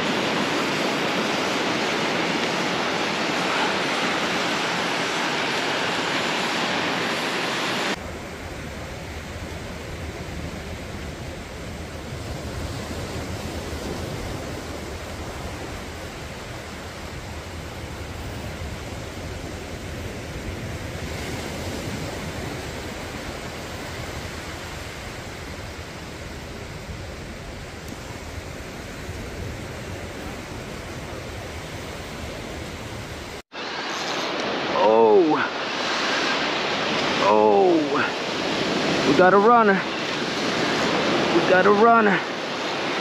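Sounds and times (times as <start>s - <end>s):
ocean surf washing up beach: 0.0s - 43.0s.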